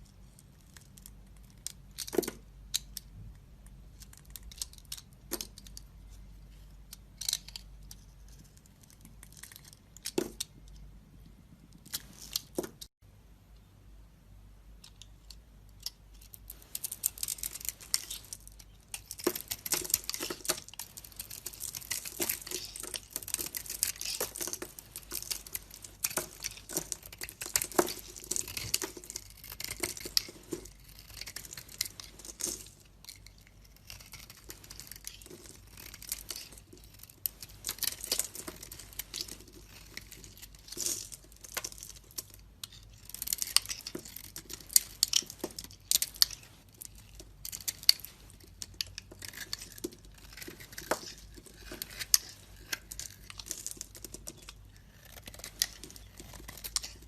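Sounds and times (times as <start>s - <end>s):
knife cutting and scraping soap: 3.9s - 10.6s, 15.0s - 57.0s.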